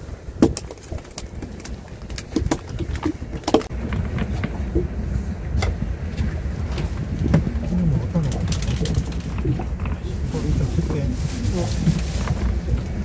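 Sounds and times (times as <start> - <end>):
boat engine rumble: 0.0 - 13.0
wind: 0.0 - 13.0.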